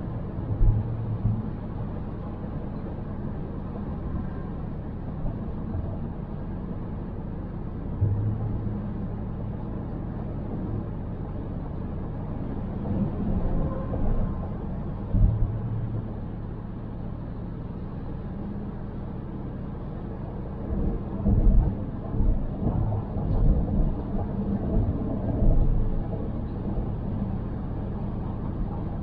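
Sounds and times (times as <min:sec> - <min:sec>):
car driving road noise: 0:00.0 - 0:29.0
low rumble: 0:00.0 - 0:29.0.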